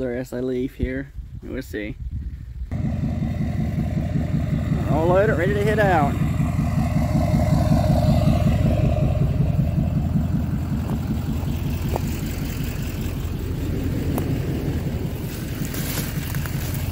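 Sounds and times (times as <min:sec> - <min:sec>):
truck engine idling: 0:02.7 - 0:16.9.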